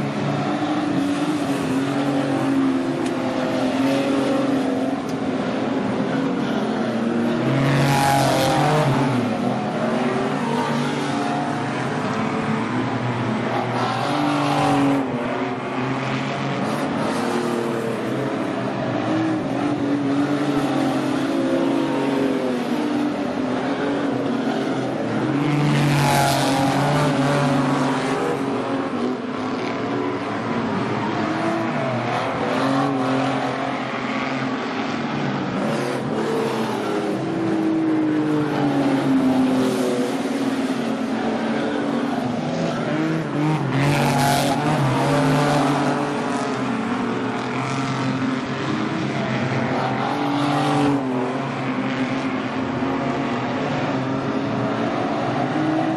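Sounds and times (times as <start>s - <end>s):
cars passing close: 0.0s - 55.9s
stock car engines racing: 0.0s - 55.9s.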